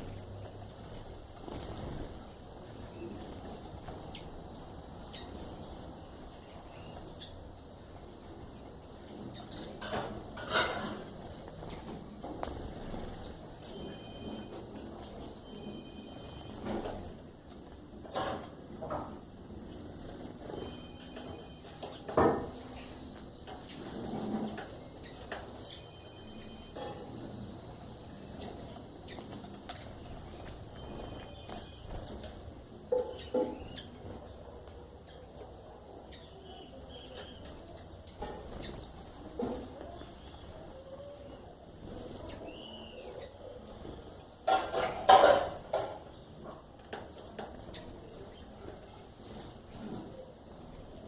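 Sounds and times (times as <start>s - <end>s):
birds chirping: 0.0s - 51.0s
outdoor background noise: 0.0s - 51.0s.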